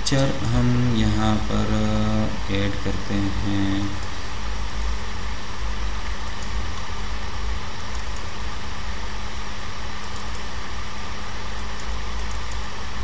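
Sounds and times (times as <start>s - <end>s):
faint steady hum: 0.0s - 13.0s
low rumble with hiss: 0.0s - 13.0s.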